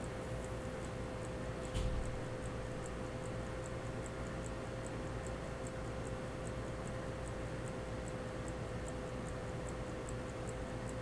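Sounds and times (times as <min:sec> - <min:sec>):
pocket watch ticking: 0:00.0 - 0:11.0
steady hum: 0:00.0 - 0:11.0.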